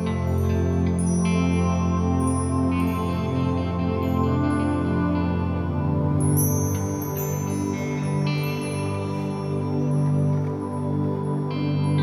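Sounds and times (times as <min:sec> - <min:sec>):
calm new-age music: 0:00.0 - 0:12.0.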